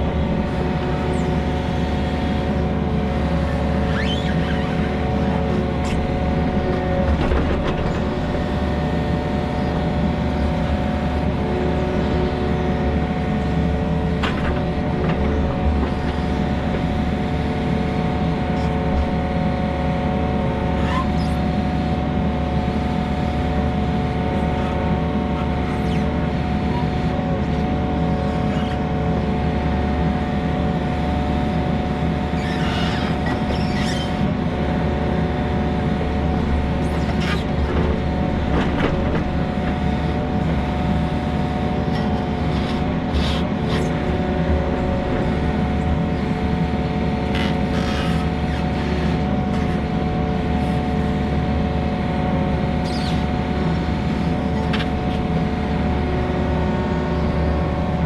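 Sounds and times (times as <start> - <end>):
heavy equipment engine running: 0.0 - 58.0.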